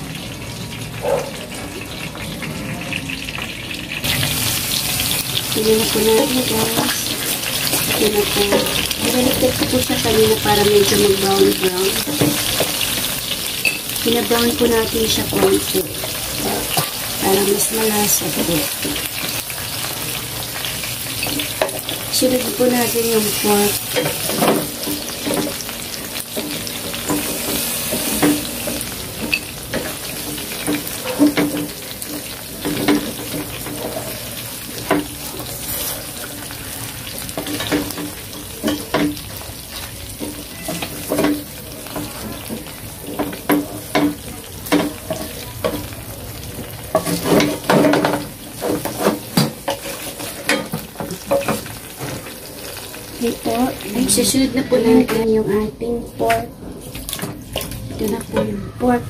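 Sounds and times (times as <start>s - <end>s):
chicken sizzling in hot oil: 0.0s - 54.8s.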